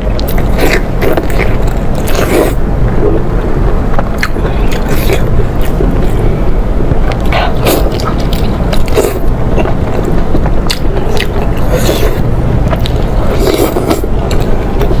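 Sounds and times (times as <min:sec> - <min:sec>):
steady low rumble: 0:00.0 - 0:15.0
person biting and chewing: 0:00.1 - 0:02.6, 0:04.2 - 0:06.2, 0:07.1 - 0:15.0.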